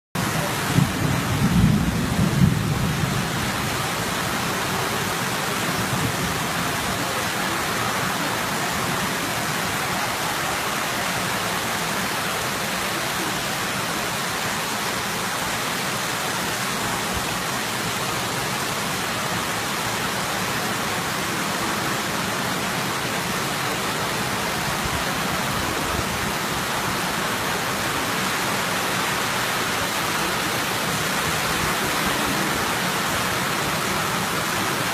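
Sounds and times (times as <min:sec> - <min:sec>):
torrential rain pouring: 0:00.2 - 0:34.9.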